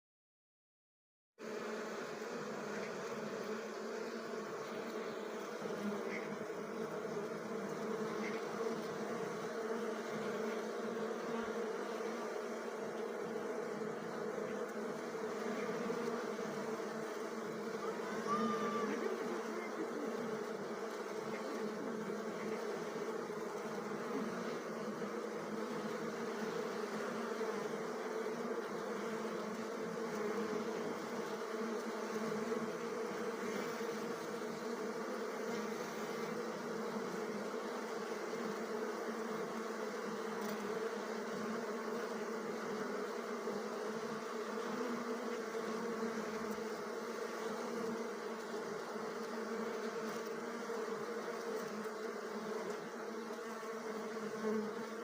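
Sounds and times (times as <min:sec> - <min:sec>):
honeybees buzzing: 0:01.4 - 0:55.0.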